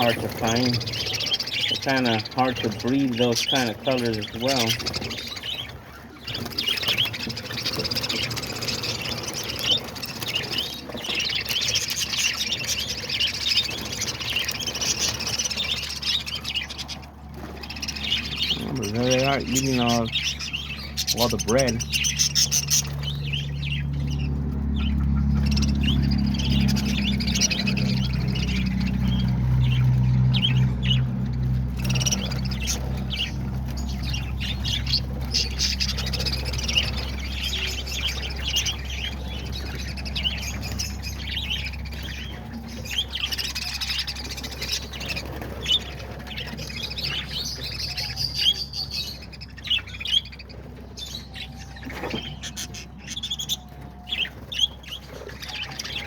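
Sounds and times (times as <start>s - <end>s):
caged birds chattering and squawking: 0.0s - 56.0s.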